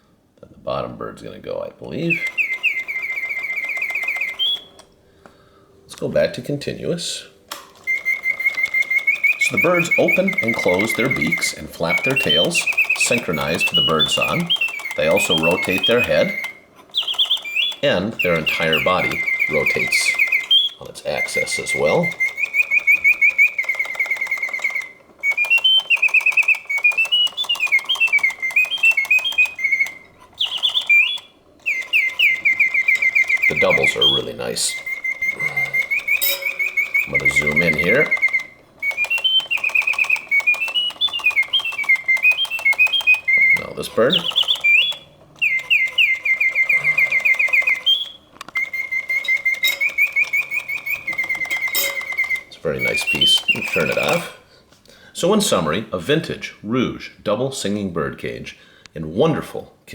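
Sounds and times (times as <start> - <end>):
mechanical bird whistling trills: 0.7 - 54.5
mechanism clicking: 1.8 - 5.1, 7.2 - 54.4.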